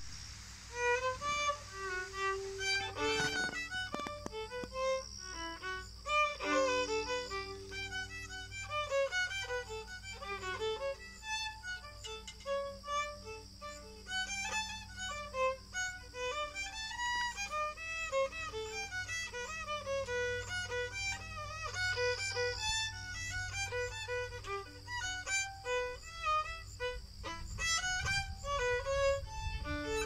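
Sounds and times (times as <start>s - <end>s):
solo violin melody: 0.0s - 30.0s.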